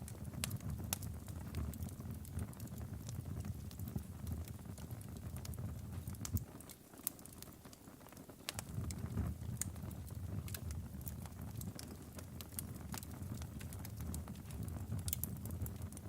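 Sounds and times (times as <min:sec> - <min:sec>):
burning logs crackling: 0:00.0 - 0:16.0.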